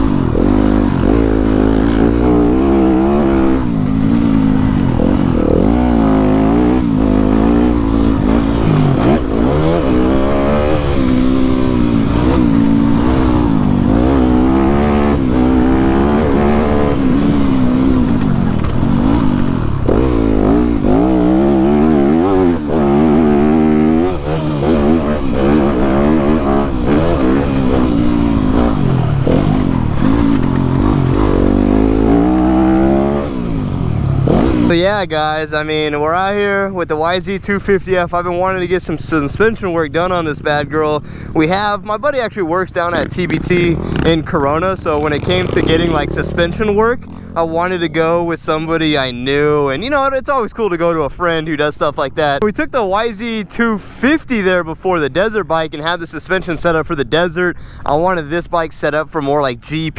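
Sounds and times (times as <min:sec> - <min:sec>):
dirt bike engine revving: 0:00.0 - 0:58.5.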